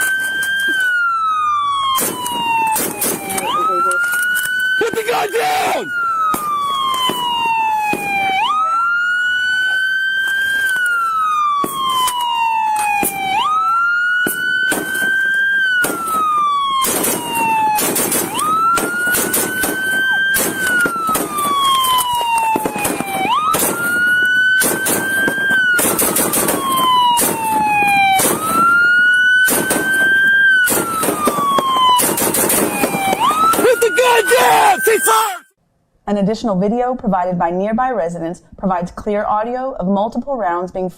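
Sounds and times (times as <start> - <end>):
police siren wailing: 0.0 - 35.6
sharp cracks: 1.9 - 35.4.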